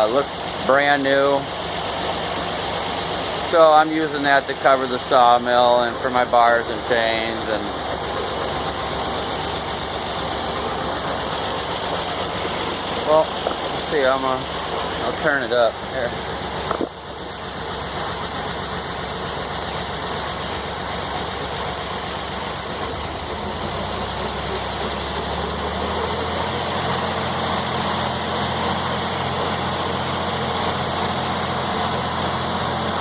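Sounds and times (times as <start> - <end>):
sawmill engine running: 0.0 - 33.0.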